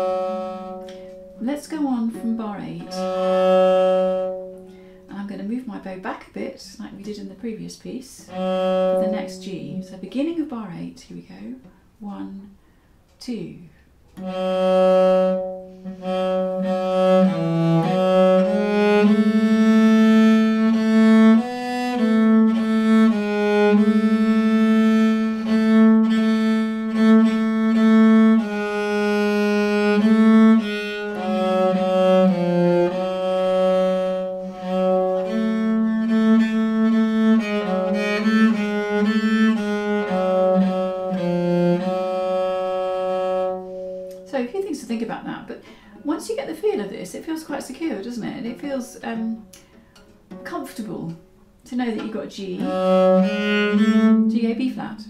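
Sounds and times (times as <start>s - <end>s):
bowed viol slow melody: 0.0s - 6.0s, 7.0s - 10.6s, 14.1s - 46.8s, 47.9s - 55.0s.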